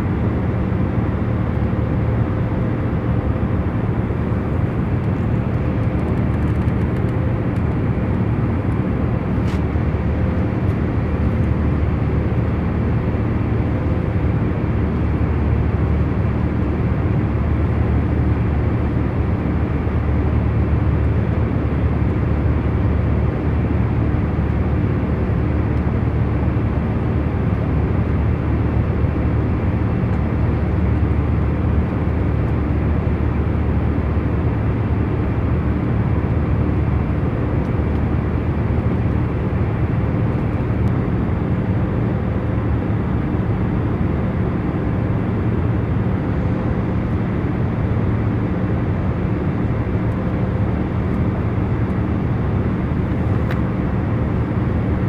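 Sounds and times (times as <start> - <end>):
airliner engine and airflow drone: 0.0 - 55.0.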